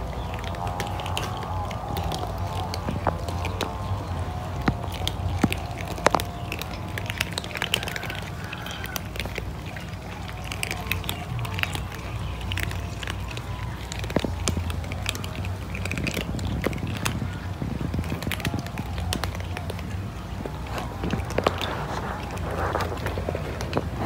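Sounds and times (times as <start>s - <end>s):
cats crunching dry kibble: 0.0s - 24.0s
low hum: 0.0s - 24.0s.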